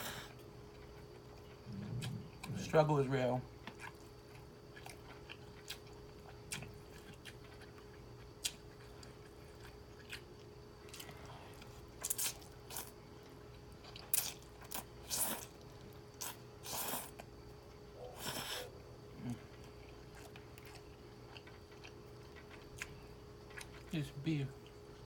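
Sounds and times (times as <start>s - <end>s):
faint steady hum: 0.0s - 25.0s
chewing food close up: 0.3s - 25.0s.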